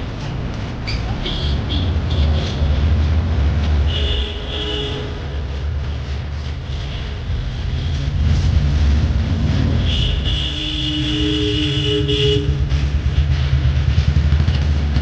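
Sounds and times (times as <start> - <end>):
street low rumble: 0.0 - 15.0.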